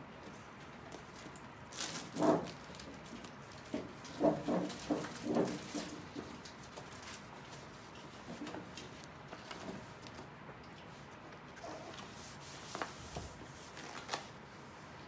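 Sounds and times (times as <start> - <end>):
puppets rustling and tapping: 0.2 - 14.3.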